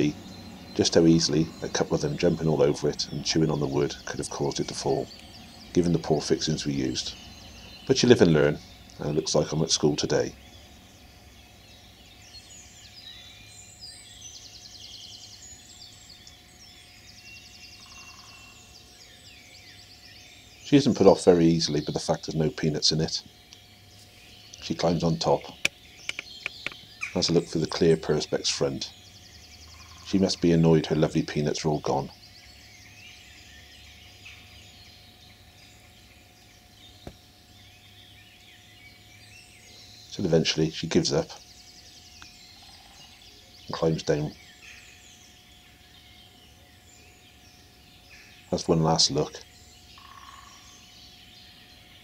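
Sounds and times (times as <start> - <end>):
bird trill: 0.0 - 52.0
low steady hum: 0.0 - 52.0
songbirds singing: 0.0 - 52.0.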